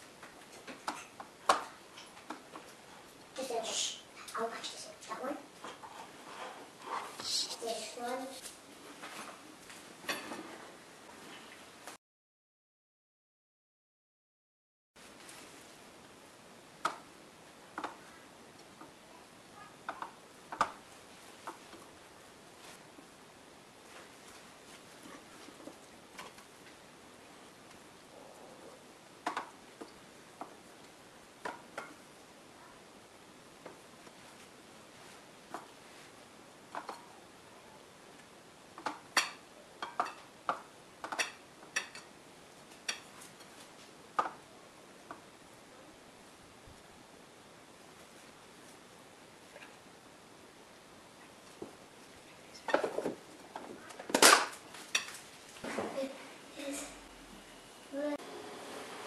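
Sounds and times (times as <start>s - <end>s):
faint steady hiss: 0.0s - 12.0s, 15.0s - 59.0s.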